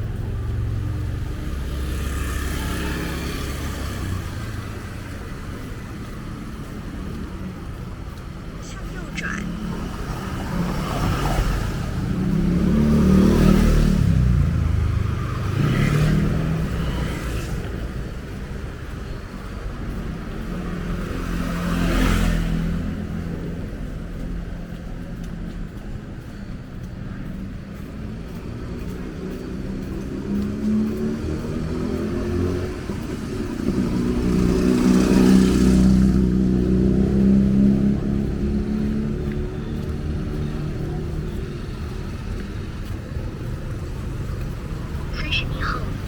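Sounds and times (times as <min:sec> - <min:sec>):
vehicles passing close by: 0:00.0 - 0:46.0.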